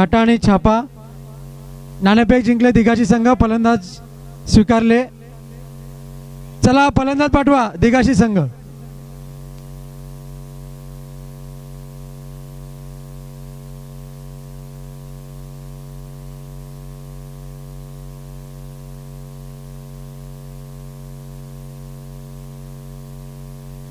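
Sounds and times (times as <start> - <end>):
electrical mains hum: 0.0 - 23.9.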